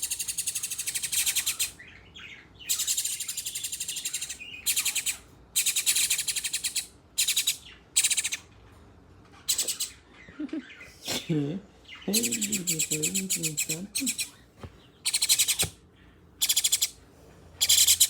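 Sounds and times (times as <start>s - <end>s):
birds chirping shrilly: 0.0s - 8.5s, 9.4s - 17.0s, 17.6s - 18.0s.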